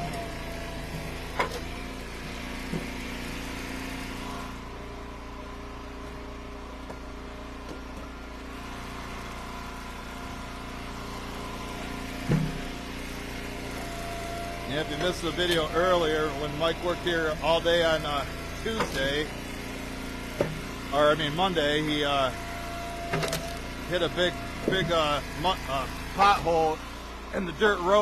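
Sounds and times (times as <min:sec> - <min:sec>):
gas engine running: 0:00.0 - 0:28.0.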